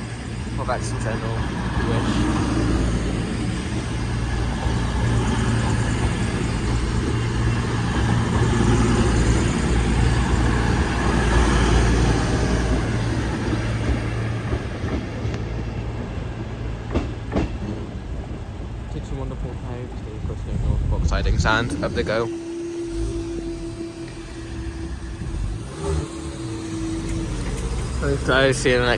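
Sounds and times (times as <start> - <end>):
diesel train engines humming: 0.0 - 28.9
train wheels clicking over rail joints: 0.1 - 28.9.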